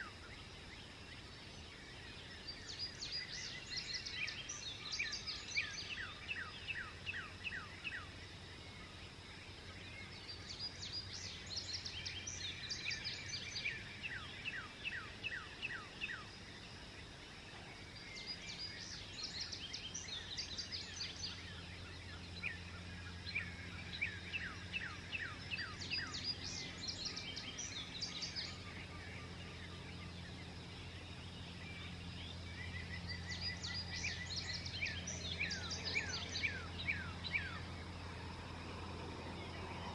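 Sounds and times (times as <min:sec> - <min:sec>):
songbirds singing: 0:00.0 - 0:39.9
steady low hum: 0:00.0 - 0:39.9.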